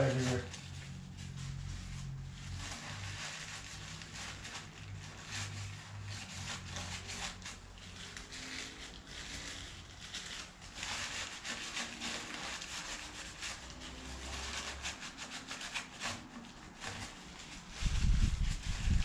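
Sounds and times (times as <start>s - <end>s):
rag rubbing on engine block: 0.0s - 19.0s.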